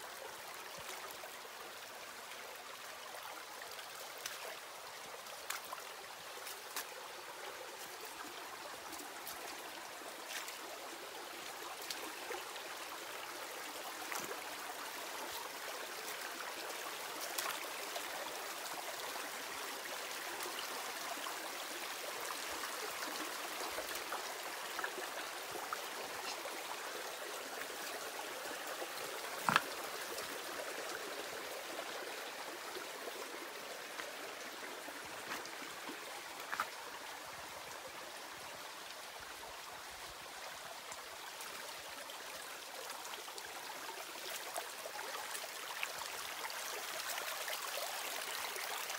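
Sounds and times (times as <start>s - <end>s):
stream water trickling: 0.0s - 48.9s.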